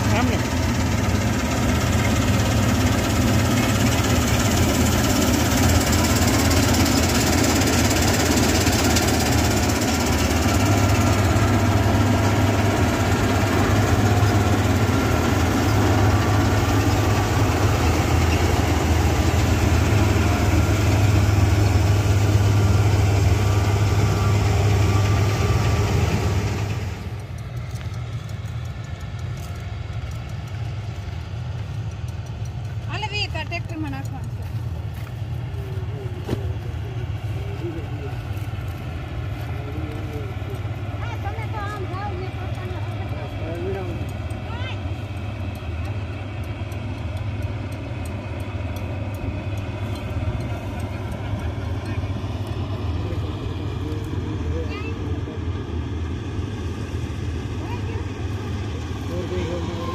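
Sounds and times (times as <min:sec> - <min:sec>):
diesel engine humming: 0:00.0 - 0:59.9.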